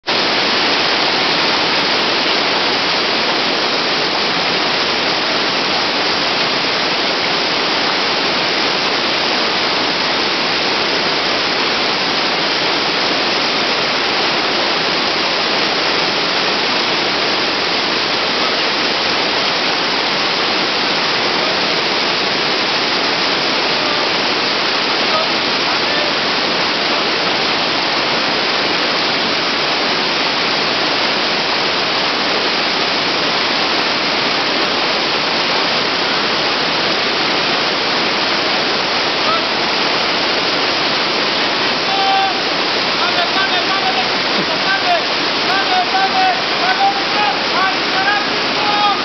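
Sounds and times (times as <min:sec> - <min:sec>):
river rapids rushing: 0:00.1 - 0:49.0.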